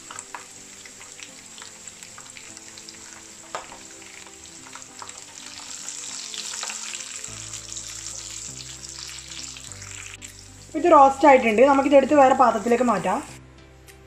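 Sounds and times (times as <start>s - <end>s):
nuts sizzling in hot fat: 0.0s - 13.4s.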